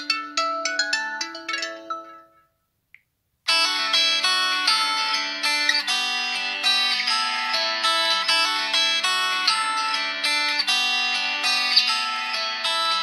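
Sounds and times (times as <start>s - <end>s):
phone ringtone plucked guitar: 0.0s - 2.6s, 3.5s - 13.0s.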